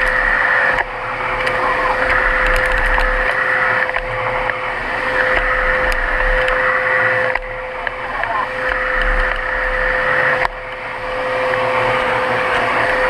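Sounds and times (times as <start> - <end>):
upright vacuum cleaner running: 0.0 - 13.0.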